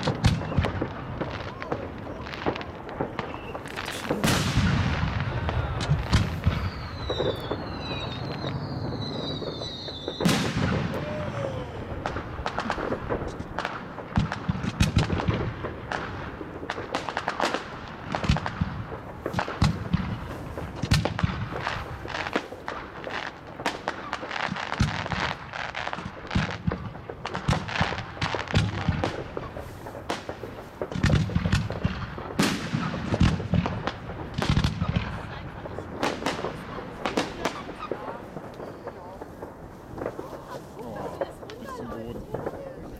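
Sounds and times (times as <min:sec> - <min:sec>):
firework bangs and crackling: 0:00.0 - 0:42.9.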